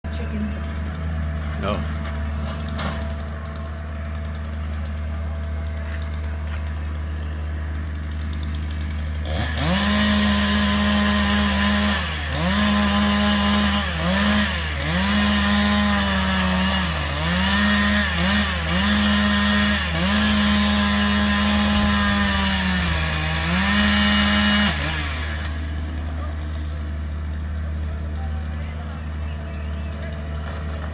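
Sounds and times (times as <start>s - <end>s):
low engine hum: 0.0s - 30.9s
chainsaw revving: 0.1s - 30.9s.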